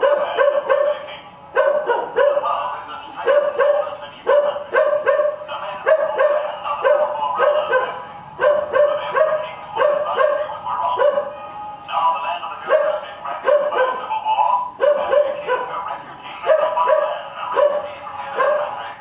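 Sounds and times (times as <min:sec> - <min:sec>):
dog barking: 0:00.0 - 0:02.6, 0:03.2 - 0:11.4, 0:12.6 - 0:14.0, 0:14.8 - 0:15.8, 0:16.4 - 0:18.8.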